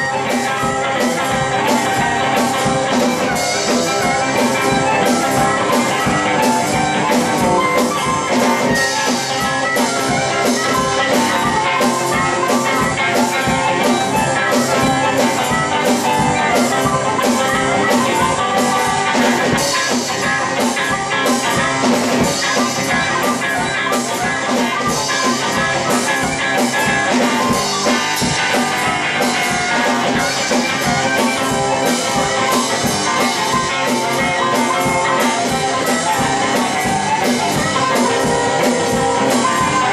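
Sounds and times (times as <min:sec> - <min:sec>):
blues harmonica: 0:00.0 - 0:39.9
drums with fast beat: 0:00.0 - 0:39.9
guitar: 0:00.0 - 0:39.9.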